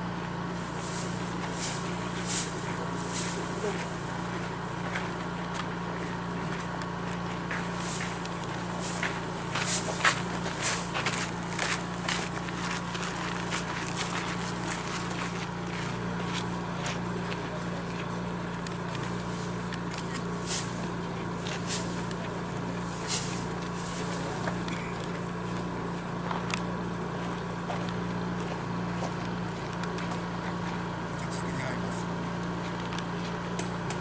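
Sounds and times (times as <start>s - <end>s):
outdoor ambience: 0.0s - 34.0s
steady low hum: 0.0s - 34.0s.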